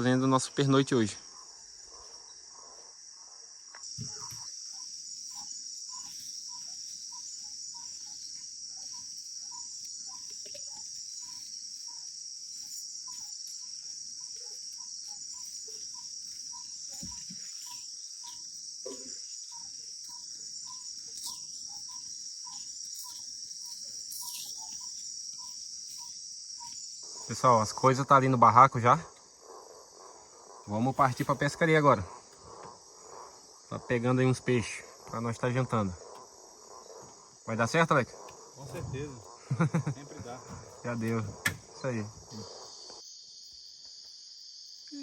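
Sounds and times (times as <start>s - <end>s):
insects chorus: 0.0s - 45.0s.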